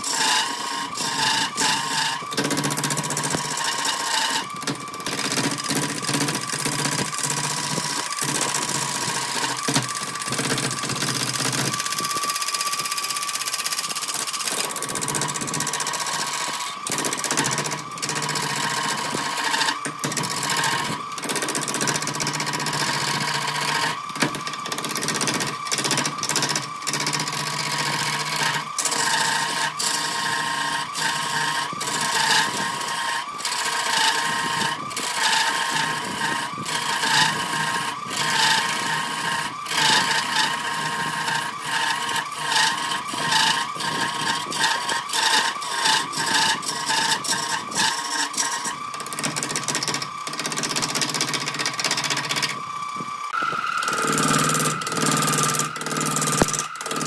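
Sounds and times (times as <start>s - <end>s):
turning tool scraping wood: 0.0s - 57.0s
wood lathe whining: 0.0s - 57.0s.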